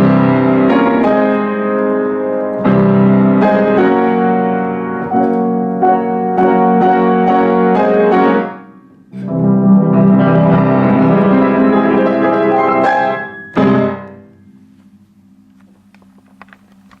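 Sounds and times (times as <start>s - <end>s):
solo piano playing chords: 0.0s - 14.8s.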